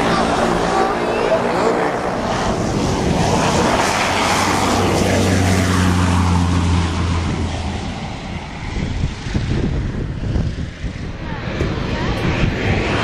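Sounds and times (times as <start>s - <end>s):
propeller aircraft flying past: 0.0s - 13.0s.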